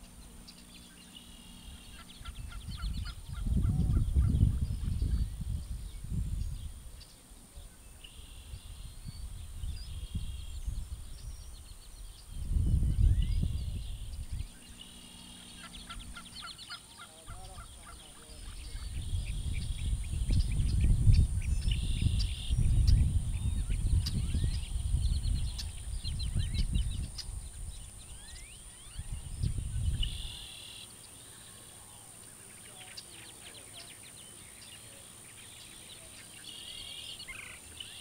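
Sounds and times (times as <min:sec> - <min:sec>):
birds chirping and trilling: 0:00.0 - 0:38.0
steady high hiss: 0:00.0 - 0:38.0.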